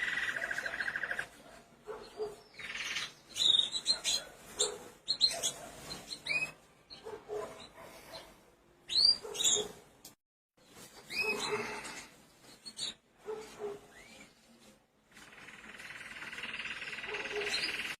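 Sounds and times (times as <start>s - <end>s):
small birds chirping: 0.0s - 9.8s, 10.6s - 18.0s.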